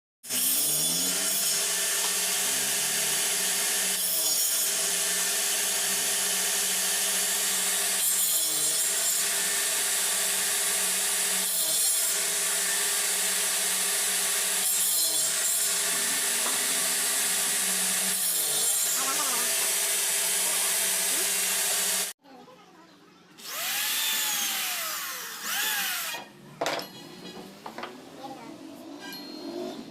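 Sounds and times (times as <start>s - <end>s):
power tool cutting wood: 0.2s - 22.2s, 23.4s - 26.4s.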